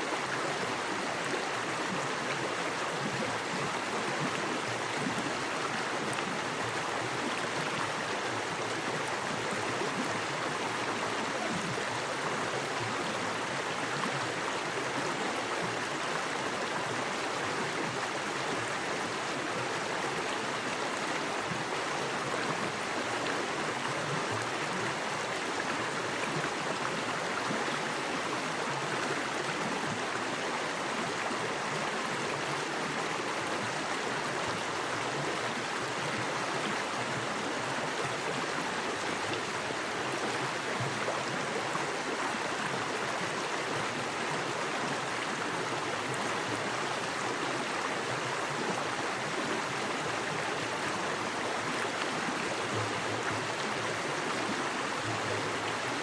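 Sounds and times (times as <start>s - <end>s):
creek running over rocks: 0.0s - 56.0s.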